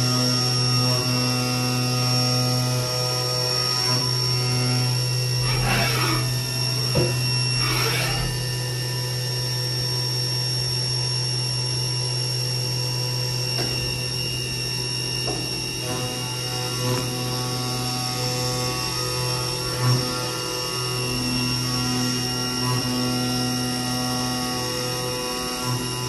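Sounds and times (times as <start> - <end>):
milling machine hum: 0.0 - 26.0
high spindle whine: 0.4 - 26.0.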